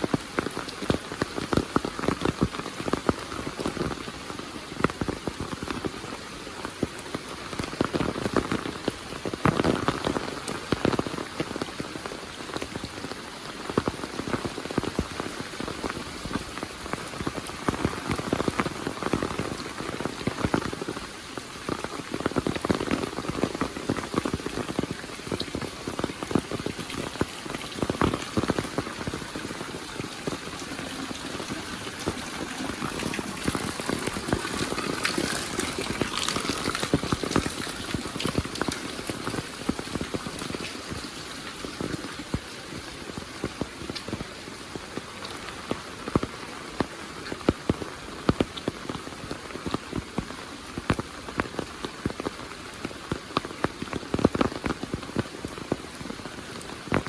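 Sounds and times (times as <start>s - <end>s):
heavy rain falling: 0.0s - 57.0s
raindrops tapping sharply: 0.0s - 57.0s.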